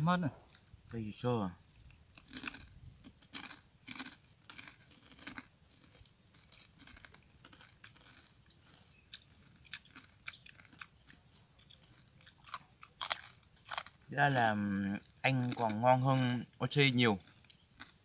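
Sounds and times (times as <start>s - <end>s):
crunchy food chewing: 0.3s - 1.0s, 1.6s - 18.0s.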